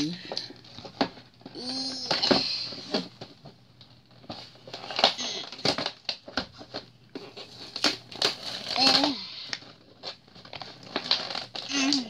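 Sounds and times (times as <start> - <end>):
paper rustling and crinkling: 0.5 - 12.0.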